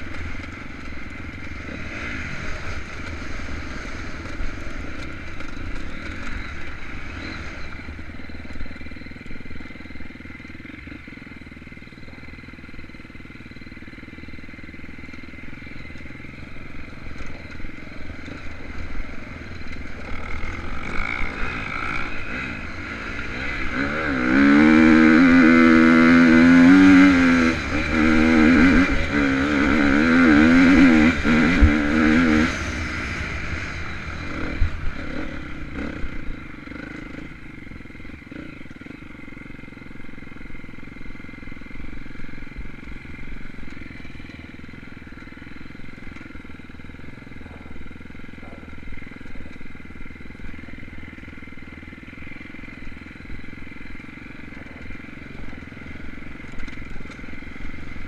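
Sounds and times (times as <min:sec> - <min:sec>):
dirt bike engine idling: 0:00.0 - 0:58.0
dirt bike engine revving: 0:00.0 - 0:58.0.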